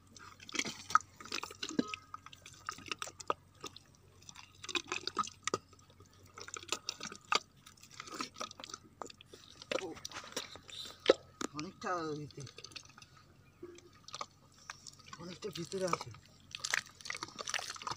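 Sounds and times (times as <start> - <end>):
wet mud squelching: 0.1 - 17.9.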